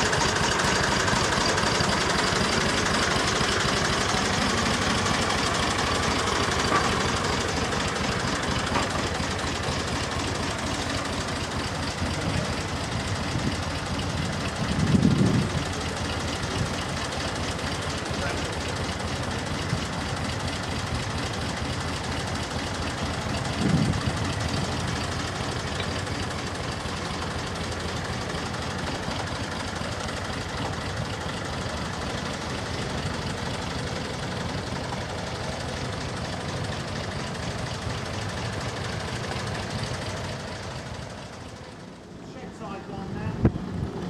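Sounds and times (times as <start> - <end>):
locomotive engine running: 0.0 - 44.0.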